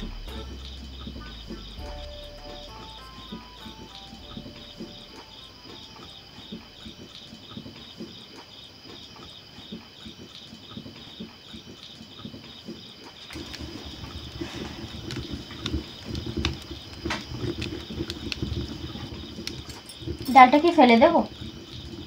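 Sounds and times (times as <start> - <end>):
crickets chirping: 0.0 - 22.0
soft irregular crackles: 2.4 - 22.0.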